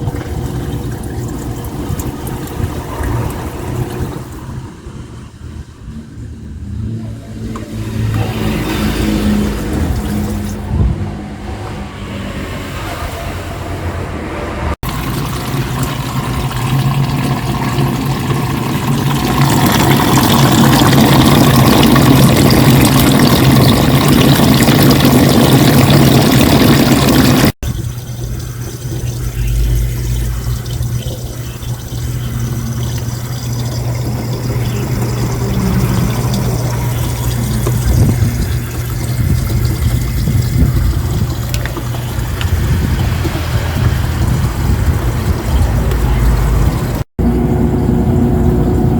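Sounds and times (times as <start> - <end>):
washing machine water rushing: 0.0 - 5.0, 7.3 - 48.9
washing machine motor hum: 0.0 - 13.2, 14.0 - 48.9.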